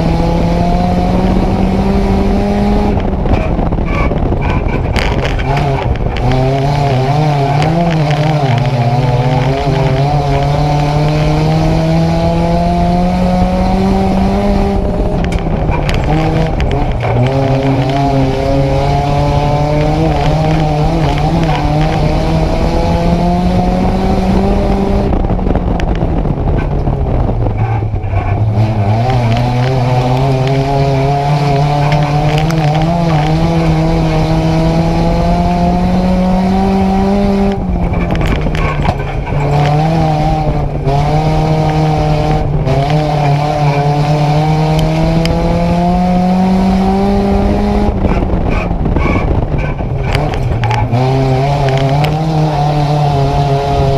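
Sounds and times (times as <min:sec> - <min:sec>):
race car engine from inside cabin: 0:00.0 - 0:53.9.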